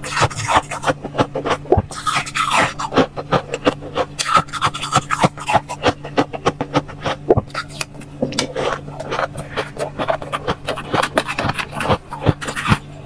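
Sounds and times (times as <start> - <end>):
frost crunching under metal spoon: 0.0 - 12.9
steady low hum: 0.0 - 13.0.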